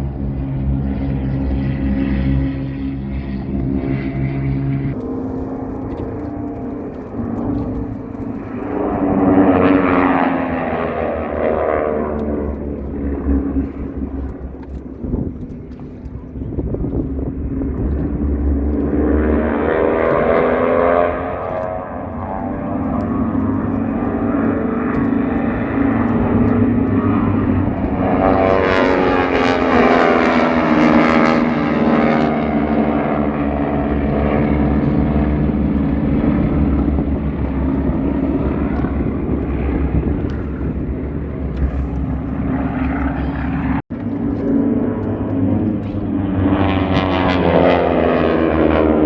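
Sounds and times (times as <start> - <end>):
propeller airplane droning past: 0.0 - 49.0.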